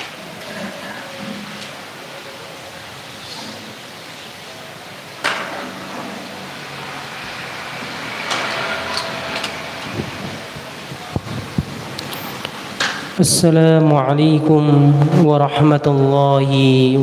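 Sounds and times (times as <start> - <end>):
steady room hiss: 0.0 - 17.0.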